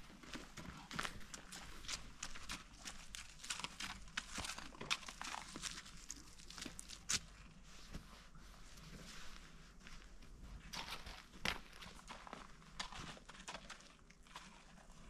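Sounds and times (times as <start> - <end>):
faint low rumble: 0.0 - 15.0
footsteps crunching on grass: 0.3 - 12.5.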